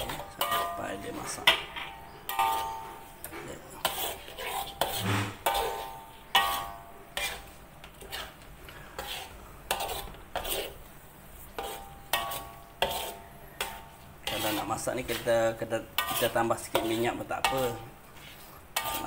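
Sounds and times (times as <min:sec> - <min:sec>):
metal spoon scraping a wok: 0:00.0 - 0:10.8, 0:11.4 - 0:19.0.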